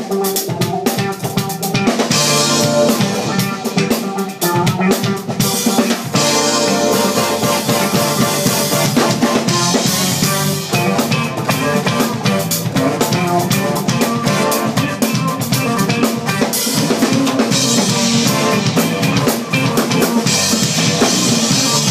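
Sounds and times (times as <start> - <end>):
drum kit: 0.0 - 21.9
jazz band playing: 0.0 - 21.9.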